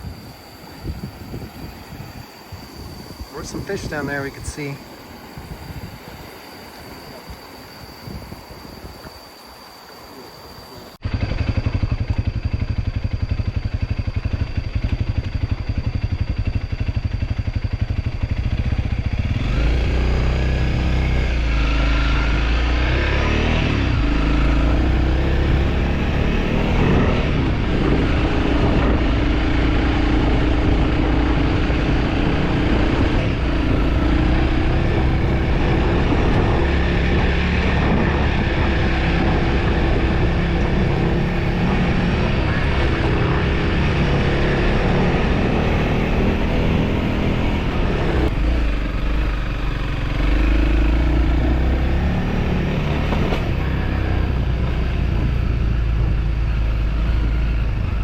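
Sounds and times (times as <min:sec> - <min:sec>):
motorcycle engine revving: 0:11.0 - 0:58.0.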